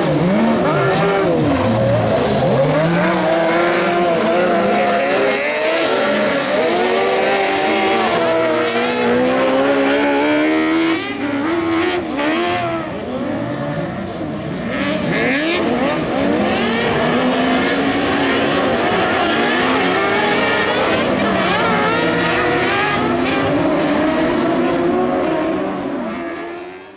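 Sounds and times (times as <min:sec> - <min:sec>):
kart engines revving: 0:00.0 - 0:26.9.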